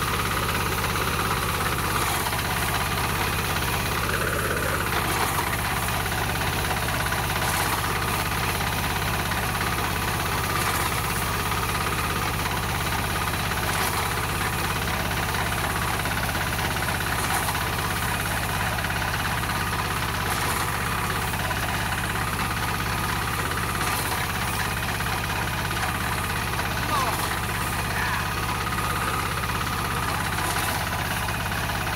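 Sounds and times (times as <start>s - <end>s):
reaper engine running: 0.0s - 31.9s.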